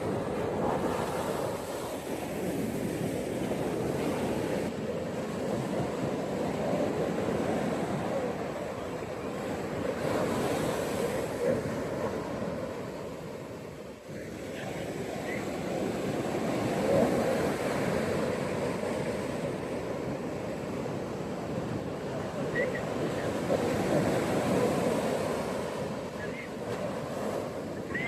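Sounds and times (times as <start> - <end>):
ocean waves washing onto beach: 0.0 - 28.0.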